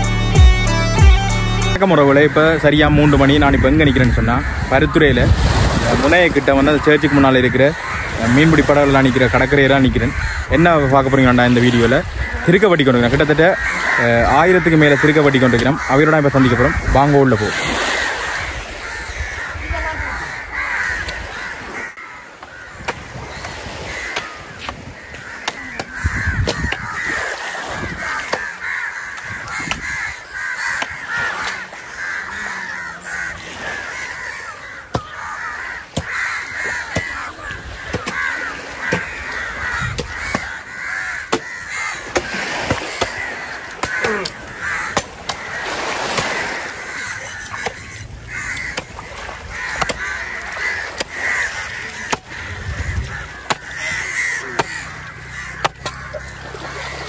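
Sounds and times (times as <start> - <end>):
crows cawing: 1.8 - 57.0.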